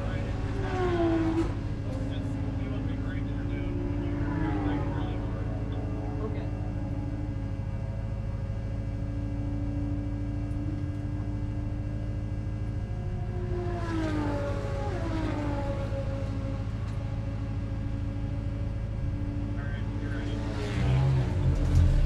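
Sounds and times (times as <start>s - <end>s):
engine passing by: 0.0s - 11.0s, 12.6s - 22.0s
car engine droning: 0.0s - 22.0s.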